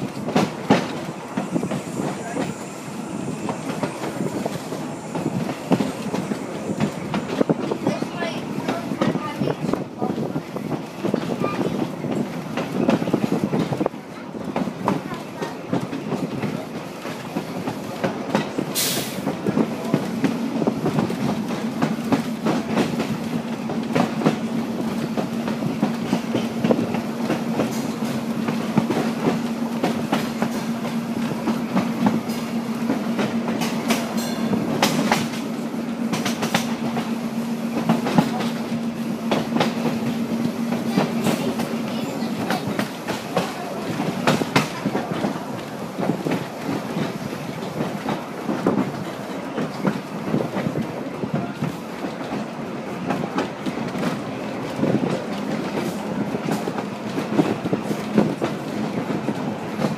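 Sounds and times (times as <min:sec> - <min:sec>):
train rumble: 0:00.0 - 0:59.9
train wheels clicking on rail joints: 0:00.0 - 0:59.9.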